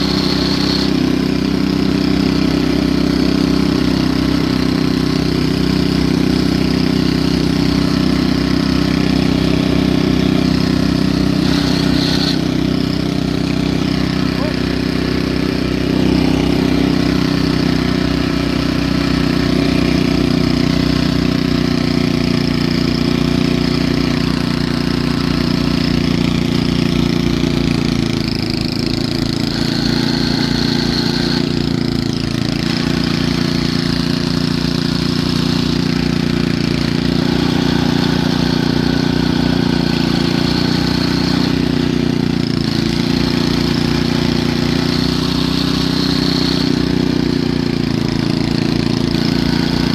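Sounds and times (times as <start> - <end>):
snowblower engine running: 0.0 - 49.9.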